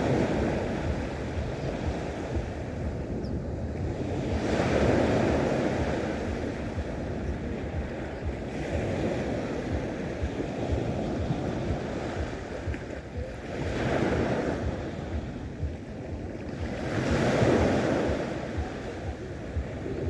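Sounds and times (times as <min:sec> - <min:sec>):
sea waves washing onto shore: 0:00.0 - 0:20.0
wind buffeting microphone: 0:00.0 - 0:20.0.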